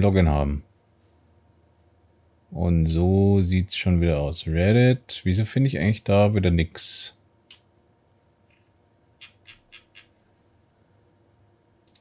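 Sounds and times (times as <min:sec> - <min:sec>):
quiet room hum: 0:00.0 - 0:12.0.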